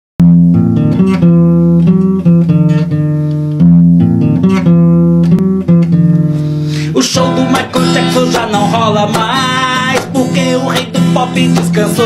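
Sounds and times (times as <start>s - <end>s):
acoustic guitar strumming chords: 0.2s - 12.0s.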